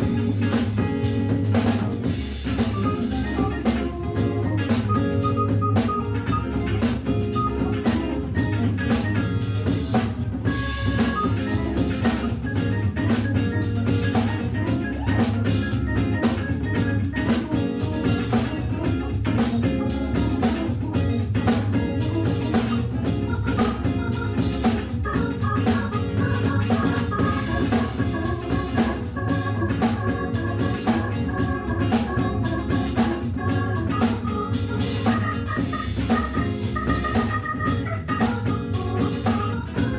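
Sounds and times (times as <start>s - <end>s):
drum kit groove: 0.0s - 39.9s
electric guitar: 0.0s - 39.9s
high held organ tone: 0.0s - 39.9s
organ playing: 0.0s - 39.9s.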